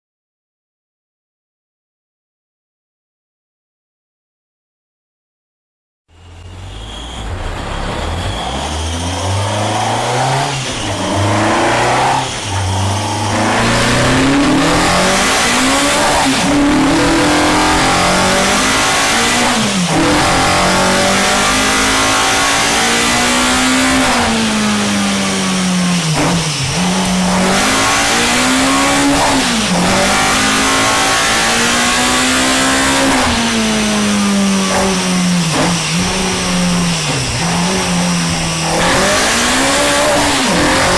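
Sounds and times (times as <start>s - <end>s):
racing engine revving: 6.2s - 40.9s.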